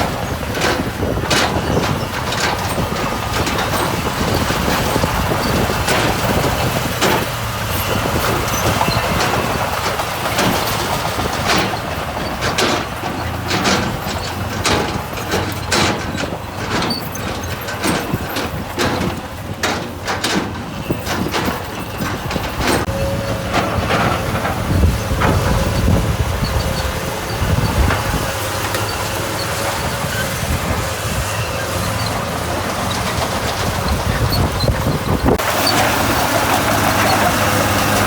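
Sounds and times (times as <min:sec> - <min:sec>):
heavy diesel engine running: 0:00.0 - 0:38.0
metal and stone clanking: 0:00.0 - 0:38.0.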